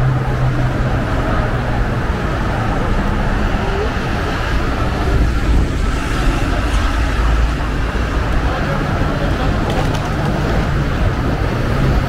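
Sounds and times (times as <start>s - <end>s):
city street traffic: 0.0s - 12.0s
low engine rumble: 0.0s - 12.0s.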